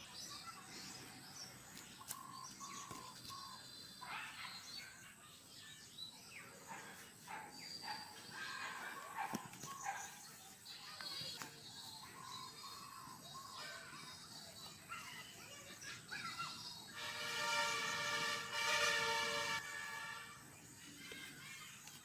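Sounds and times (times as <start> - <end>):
birds chirping and calling: 0.0 - 18.3.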